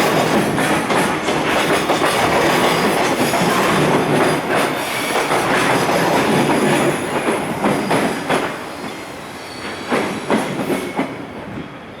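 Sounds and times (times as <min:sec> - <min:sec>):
freight train wheels clacking: 0:00.0 - 0:11.9.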